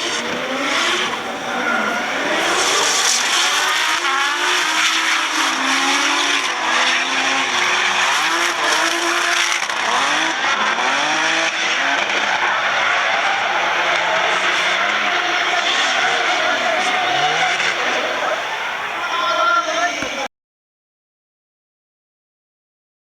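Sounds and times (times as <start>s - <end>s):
tyre squeal: 0.0s - 20.2s
car engines revving: 0.0s - 20.3s.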